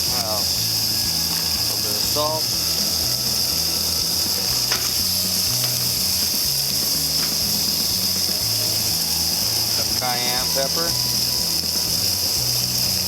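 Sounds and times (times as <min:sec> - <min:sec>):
background music with bass line: 0:00.0 - 0:13.0
high-pitched hiss: 0:00.0 - 0:13.0.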